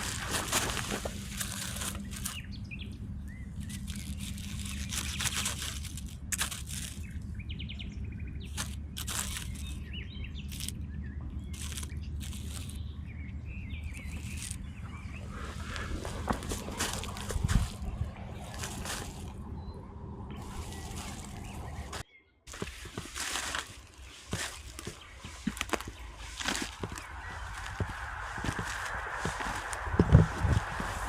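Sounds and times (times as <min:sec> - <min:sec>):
sharp crunches and snaps: 0:00.0 - 0:02.5, 0:03.5 - 0:07.3, 0:08.4 - 0:10.8, 0:11.5 - 0:12.8, 0:13.8 - 0:14.7, 0:15.6 - 0:19.4, 0:20.4 - 0:31.0
small birds chirping: 0:00.0 - 0:31.0
steady low hum: 0:00.0 - 0:31.0.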